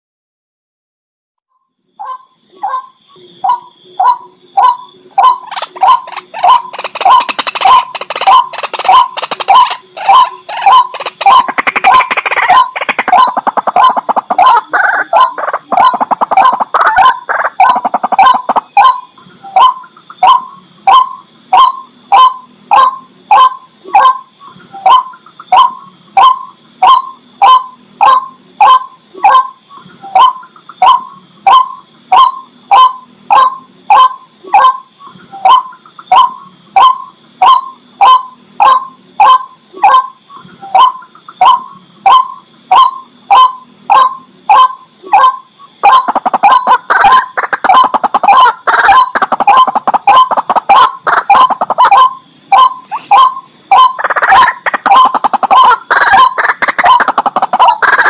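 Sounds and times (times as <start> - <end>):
bird croaking calls: 1.9 - 58.0.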